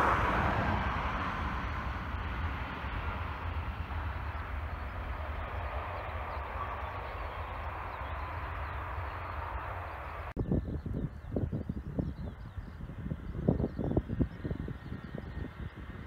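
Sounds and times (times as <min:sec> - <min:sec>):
distant jet engines roaring: 0:00.0 - 0:16.0
wind rumbling on microphone: 0:00.0 - 0:16.0.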